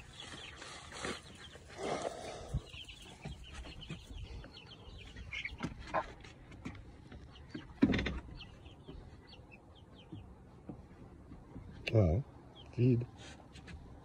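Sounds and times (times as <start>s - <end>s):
chickens clucking softly: 0.0s - 13.6s.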